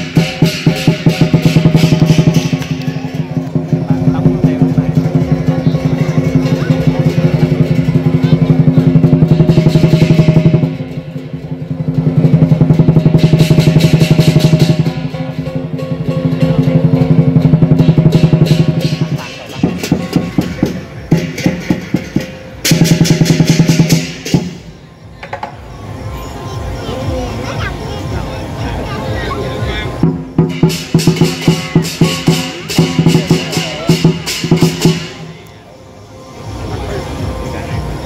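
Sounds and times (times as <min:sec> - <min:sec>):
cymbals clashing: 0:00.0 - 0:38.0
large drum rolls: 0:00.0 - 0:38.0.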